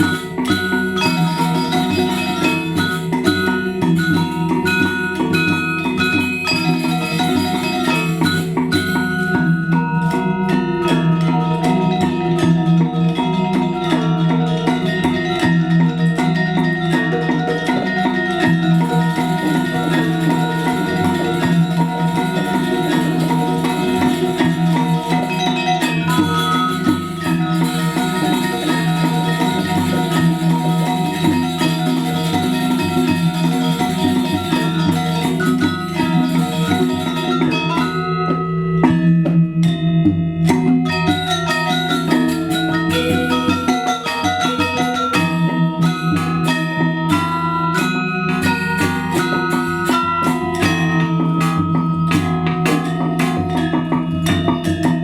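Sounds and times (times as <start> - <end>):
gamelan metallophones and gongs: 0.0 - 55.0.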